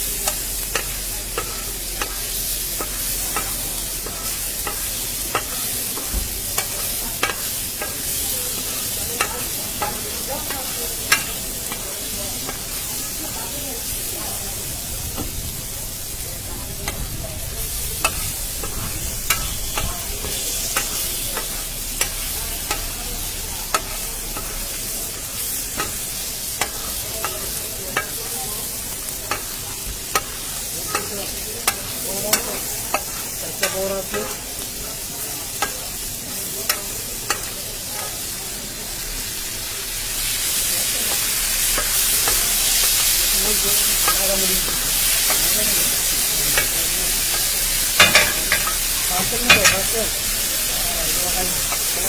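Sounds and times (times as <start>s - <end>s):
metal utensil clicking on pan: 0.0s - 13.3s, 16.7s - 17.2s, 17.8s - 38.3s, 40.0s - 50.4s, 51.1s - 52.0s
food sizzling in hot oil: 0.0s - 52.0s.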